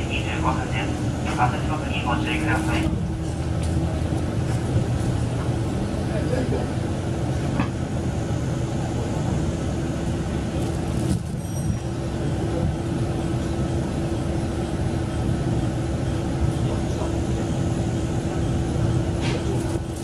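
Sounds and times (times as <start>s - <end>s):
railcar engine hum and rumble: 0.0s - 20.0s.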